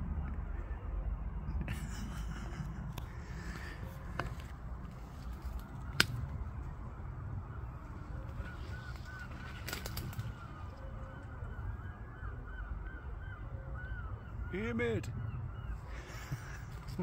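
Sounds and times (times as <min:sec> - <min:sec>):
distant birds honking: 0:00.0 - 0:17.0
steady low rumble: 0:00.0 - 0:17.0.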